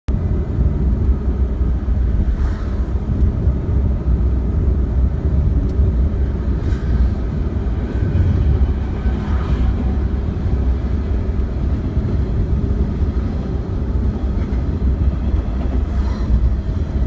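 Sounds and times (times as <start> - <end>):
car engine and road rumble: 0.1 - 17.0.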